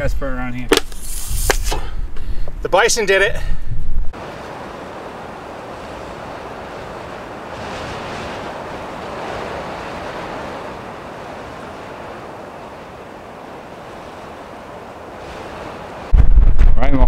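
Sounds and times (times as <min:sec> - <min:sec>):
steady rushing open-air noise: 0:00.0 - 0:17.0.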